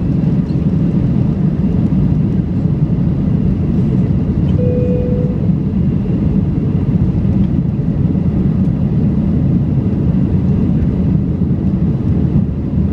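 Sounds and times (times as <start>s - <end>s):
deep roar of jet engines: 0.0s - 12.9s.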